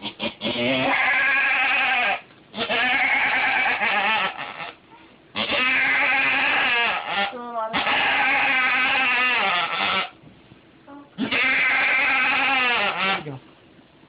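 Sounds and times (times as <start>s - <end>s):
goat bleating: 0.0s - 4.8s, 5.4s - 10.2s, 11.2s - 13.4s.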